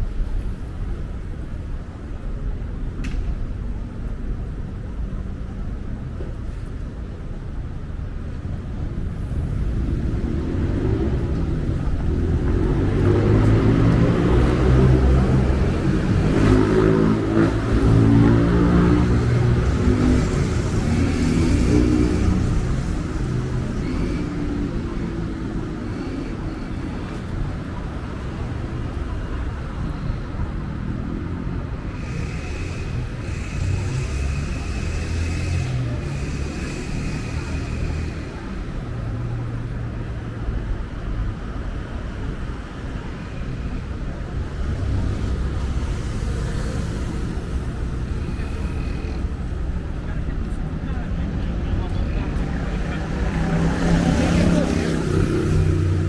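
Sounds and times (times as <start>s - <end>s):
traffic rumble: 0.0s - 56.0s.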